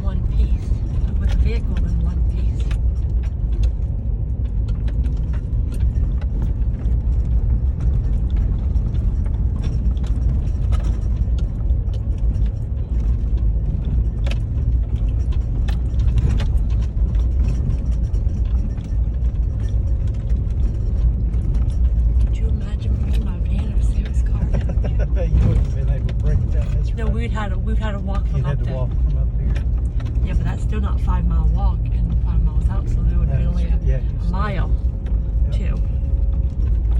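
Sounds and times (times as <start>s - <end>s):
knocks and rattles: 0.0s - 36.9s
vehicle engine and tyres rumbling: 0.0s - 36.9s.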